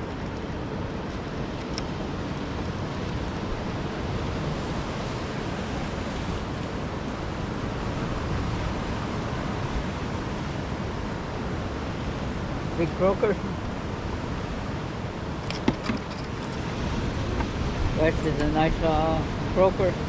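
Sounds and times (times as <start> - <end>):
ocean surf rushing: 0.0 - 20.0
wind: 0.0 - 20.0.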